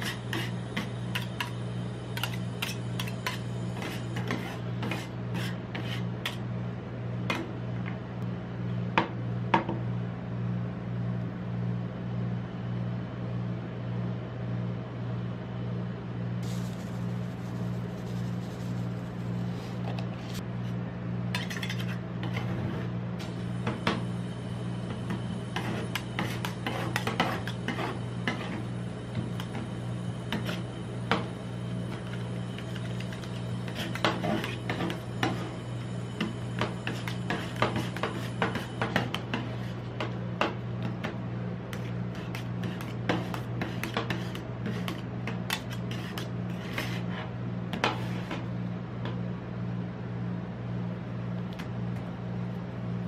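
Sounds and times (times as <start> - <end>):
low machine hum: 0.0 - 53.0.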